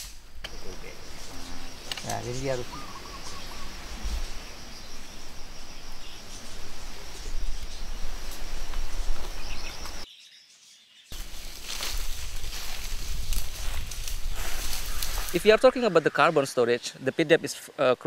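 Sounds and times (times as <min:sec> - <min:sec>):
high insect drone: 0:00.0 - 0:10.1, 0:11.2 - 0:16.4.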